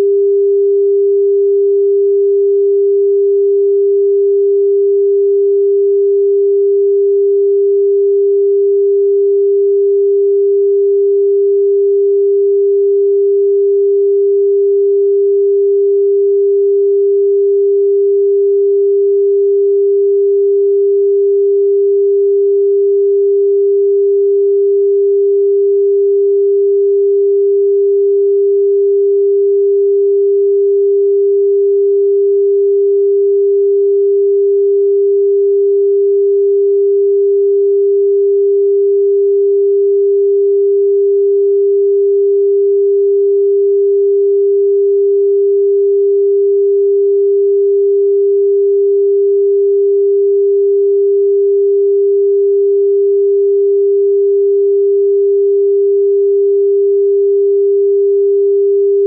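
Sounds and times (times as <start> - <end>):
steady sine tone: 0.0 - 59.0.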